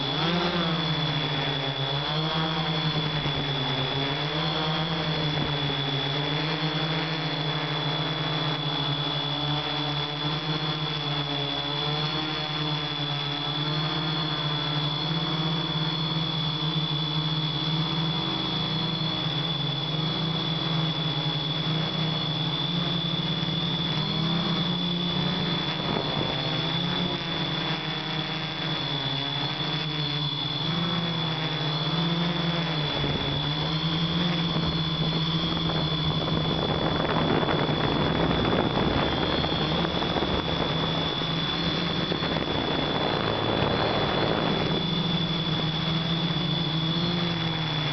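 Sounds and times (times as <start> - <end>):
drone propellers whirring: 0.0 - 47.9
steady high whine: 0.0 - 47.9.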